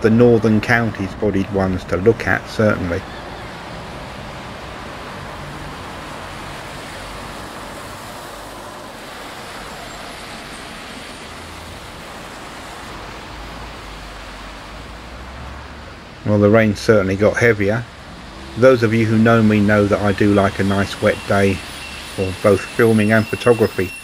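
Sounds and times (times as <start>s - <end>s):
bus and car engines rumbling: 0.0s - 24.0s
tyres hissing on wet road: 2.3s - 24.0s.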